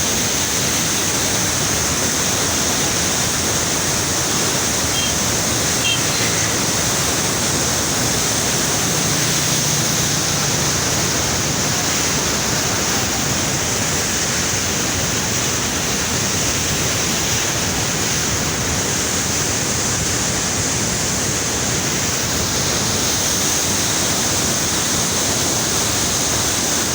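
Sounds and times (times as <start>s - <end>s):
water rushing through gates: 0.0s - 26.9s.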